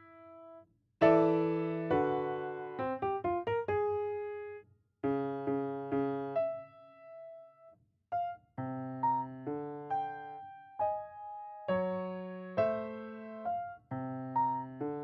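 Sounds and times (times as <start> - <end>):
piano chords and notes: 0.0 - 15.0.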